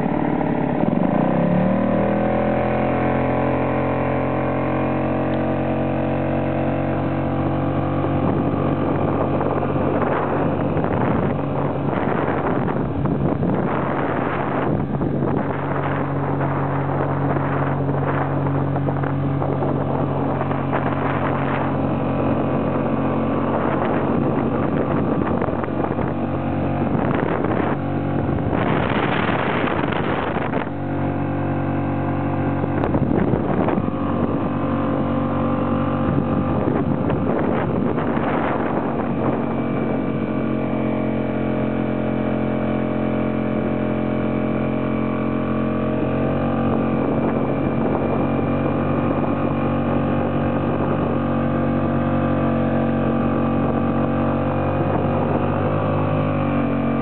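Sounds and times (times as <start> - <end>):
outboard engine running: 0.0 - 57.0
rush of noise: 0.0 - 57.0.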